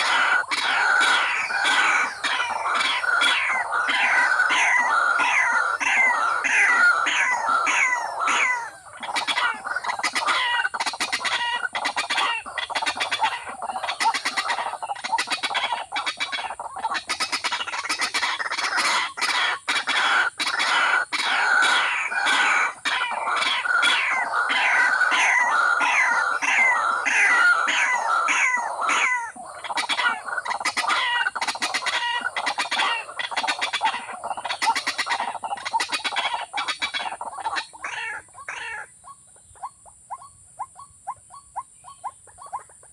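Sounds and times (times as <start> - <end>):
rail bird harsh clucking calls: 0.0 - 42.9.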